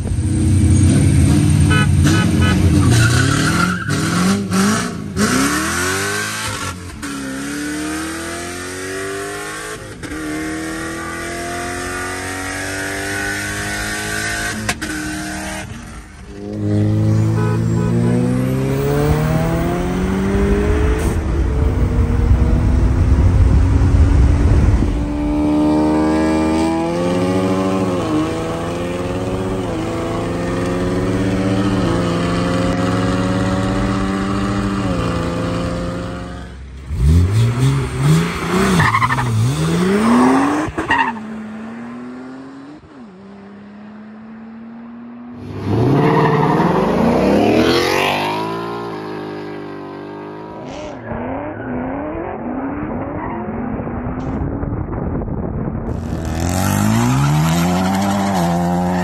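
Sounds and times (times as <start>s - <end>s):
car engines revving at full throttle: 0.0s - 59.0s.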